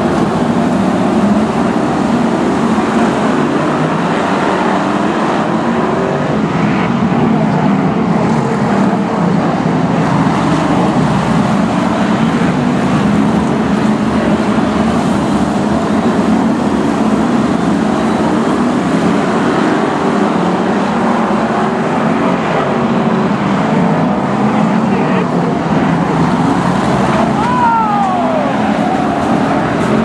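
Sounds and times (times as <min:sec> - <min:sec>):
racing car engines: 0:00.0 - 0:30.0.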